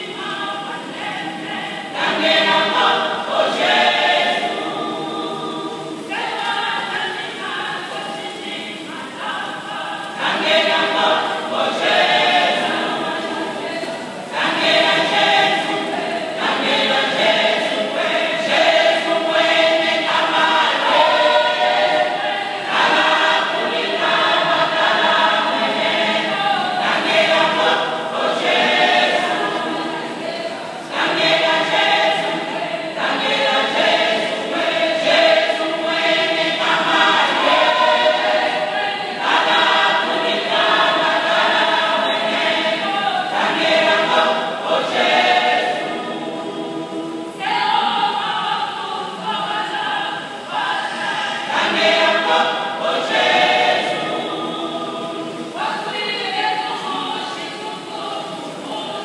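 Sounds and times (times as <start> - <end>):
women's choir singing gospel: 0.0 - 59.0.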